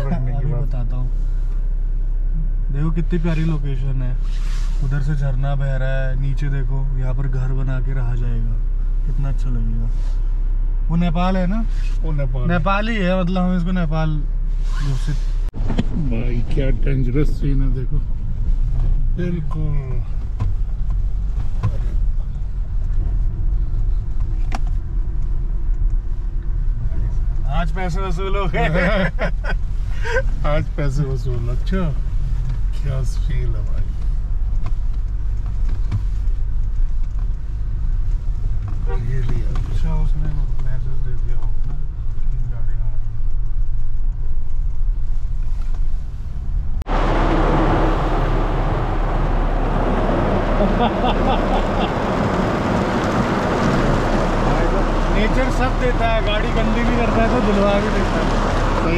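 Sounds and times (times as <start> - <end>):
vehicle engine and tyres rumbling: 0.0 - 58.9.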